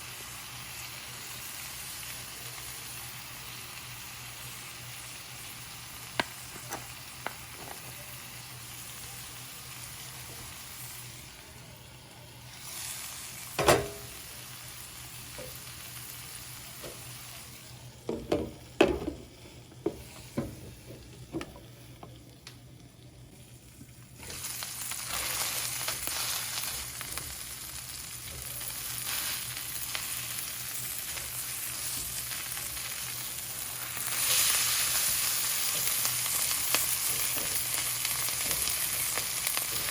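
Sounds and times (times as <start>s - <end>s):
food sizzling in a hot pan: 0.0s - 39.9s.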